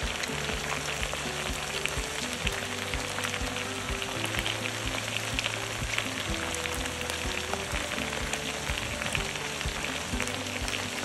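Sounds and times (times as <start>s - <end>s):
background music: 0.0s - 11.0s
pork sizzling in a pan: 0.0s - 11.0s.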